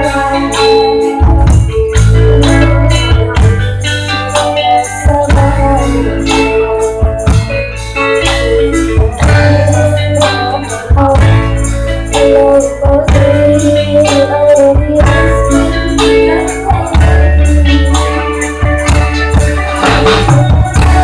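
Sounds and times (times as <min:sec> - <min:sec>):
loud music with bass: 0:00.0 - 0:21.0.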